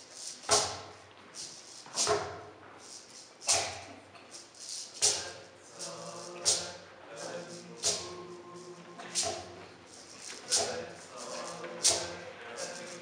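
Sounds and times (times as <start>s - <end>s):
hand drum beat: 0.2s - 13.0s.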